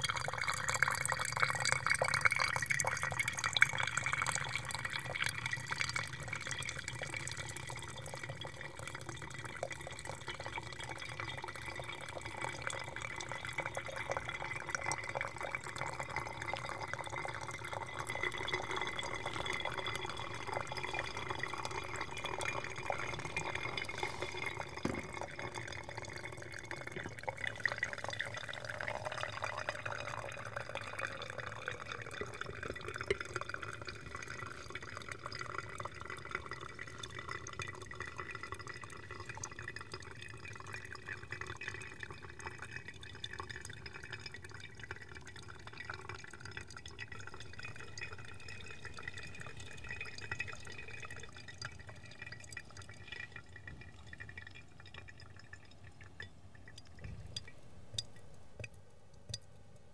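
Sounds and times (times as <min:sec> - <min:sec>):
coffee trickling into glass: 0:00.0 - 0:59.9.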